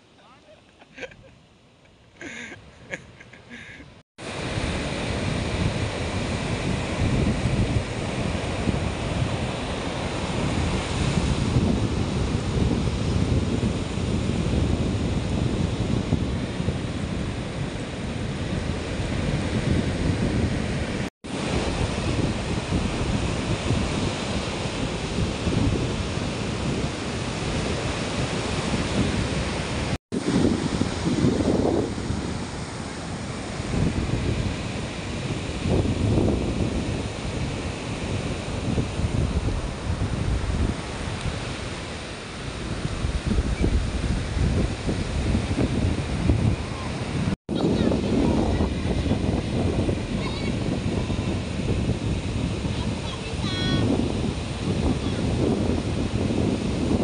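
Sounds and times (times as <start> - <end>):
surf breaking on beach: 4.2 - 57.0
wind buffeting microphone: 4.2 - 57.0.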